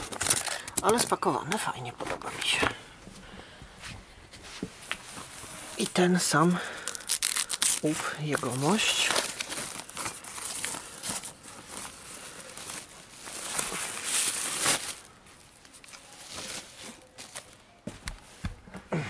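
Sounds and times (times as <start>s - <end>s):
plastic bag rustling: 0.0s - 2.8s, 4.5s - 17.7s.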